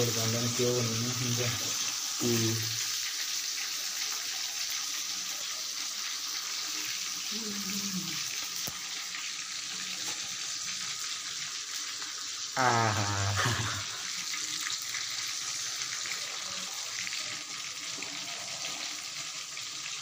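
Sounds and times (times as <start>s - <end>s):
fish sizzling in hot fat: 0.0s - 20.0s.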